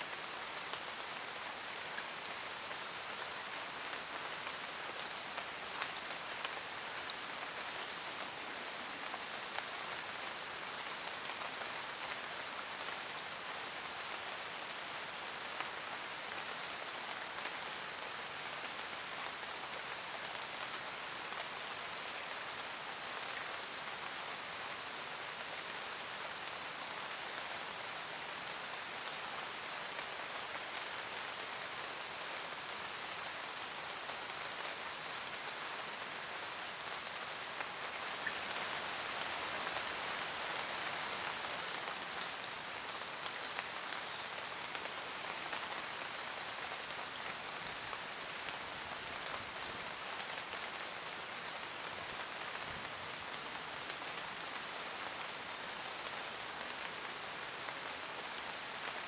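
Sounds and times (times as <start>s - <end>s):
rain falling in forest: 0.0s - 59.0s.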